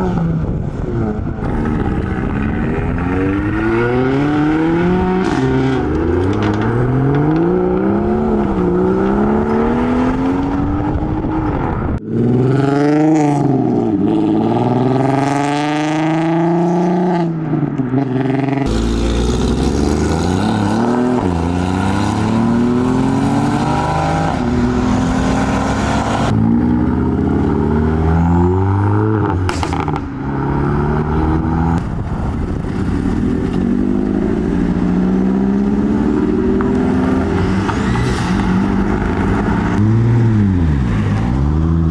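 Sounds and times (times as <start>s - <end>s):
car engines revving and accelerating: 0.0s - 41.9s.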